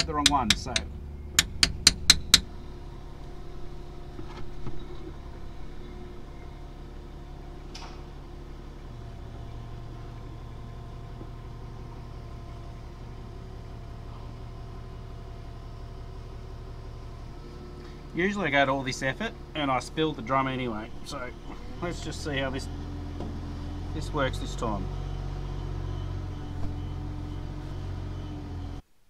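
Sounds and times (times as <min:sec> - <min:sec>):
low mechanical engine hum: 0:00.0 - 0:28.9.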